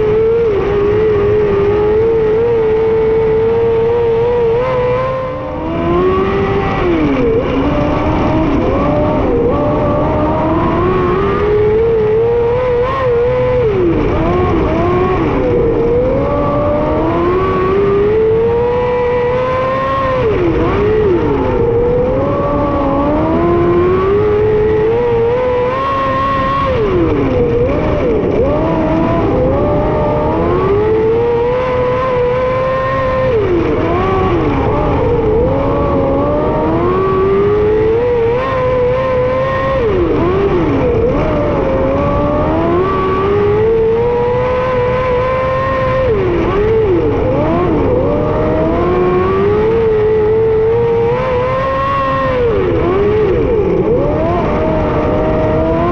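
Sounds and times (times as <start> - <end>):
motorcycle engine at racing speed: 0.0 - 55.9.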